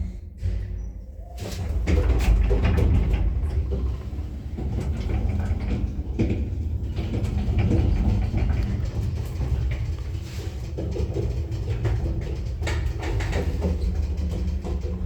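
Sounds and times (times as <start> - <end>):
lift car rumbling in shaft: 0.0 - 15.0.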